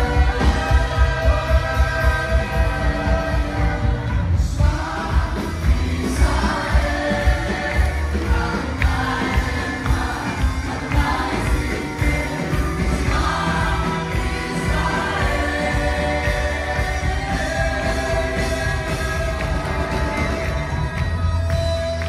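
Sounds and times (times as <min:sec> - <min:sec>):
crowd singing along: 0:00.0 - 0:21.2
live worship band: 0:00.0 - 0:22.0.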